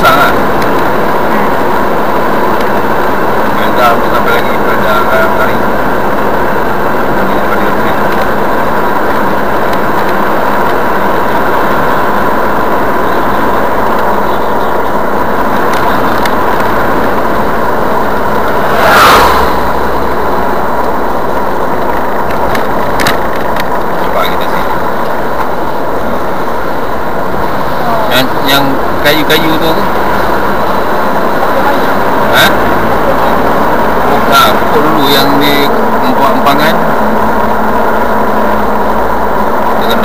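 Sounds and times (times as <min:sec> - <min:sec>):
car road and engine noise: 0:00.0 - 0:40.0
rush of noise: 0:00.0 - 0:40.0.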